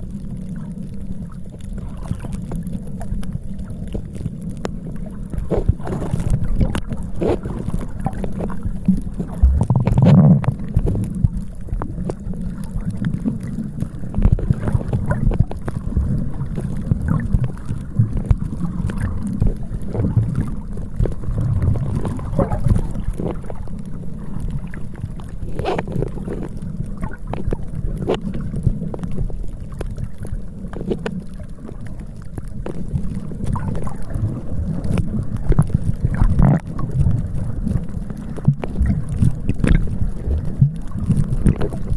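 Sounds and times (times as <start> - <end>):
sea water washing: 0.0 - 41.9.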